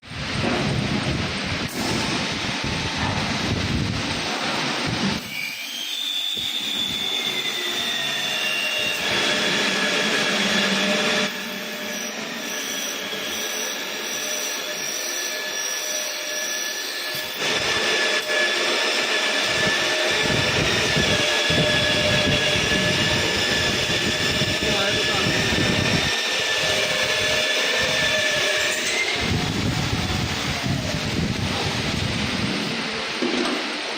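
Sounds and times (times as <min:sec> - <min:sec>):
glass drilling machine whine: 0:04.3 - 0:33.3.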